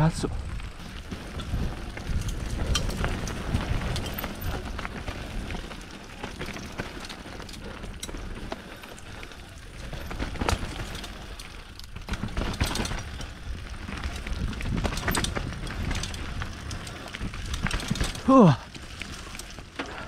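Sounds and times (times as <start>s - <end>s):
bike rattling: 0.0s - 20.0s
bike tyres over roots and rocks: 0.0s - 20.0s.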